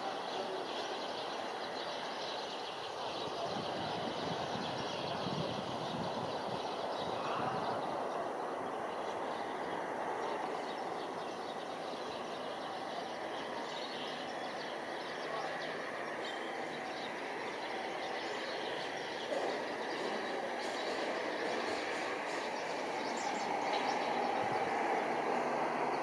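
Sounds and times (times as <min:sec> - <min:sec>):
city hum: 0:00.0 - 0:26.0
distant jet airliner rumble: 0:00.0 - 0:26.0.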